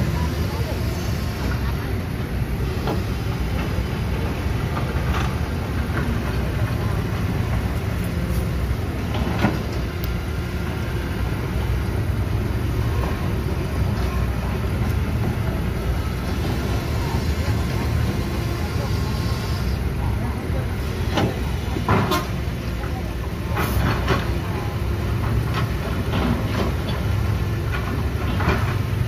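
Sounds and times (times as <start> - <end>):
diesel engines rumbling: 0.0 - 29.0.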